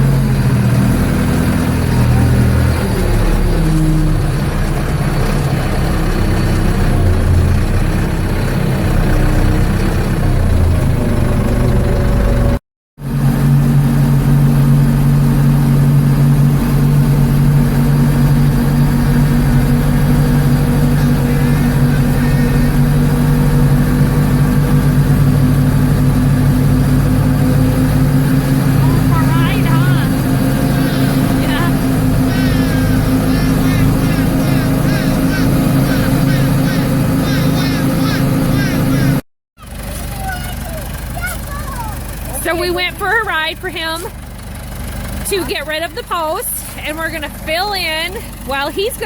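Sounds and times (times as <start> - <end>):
backhoe diesel engine running: 0.0 - 49.0.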